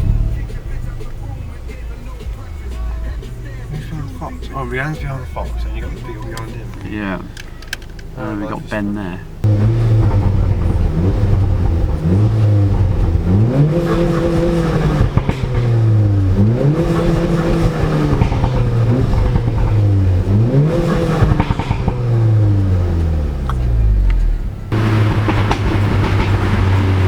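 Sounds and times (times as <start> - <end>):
car engine revving hard: 0.0 - 27.0.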